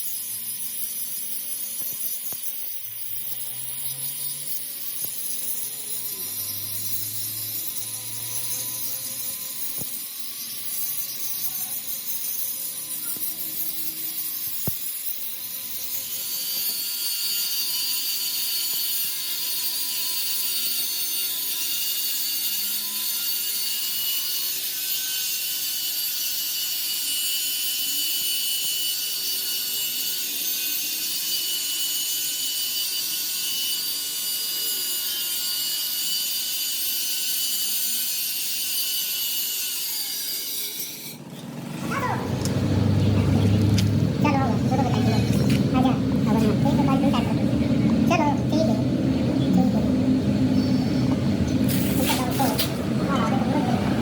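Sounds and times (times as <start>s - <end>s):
power tool working metal: 0.0s - 54.0s.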